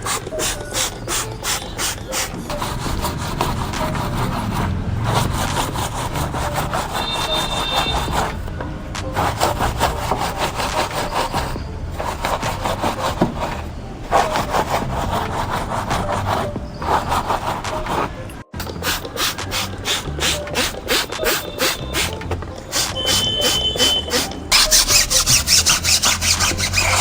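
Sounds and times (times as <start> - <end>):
stiff brush scrubbing: 0.0 - 27.0.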